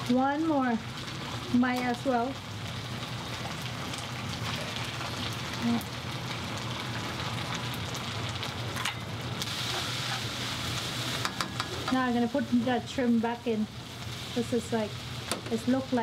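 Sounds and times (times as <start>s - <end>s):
noodles sizzling in a pan: 0.0s - 16.0s.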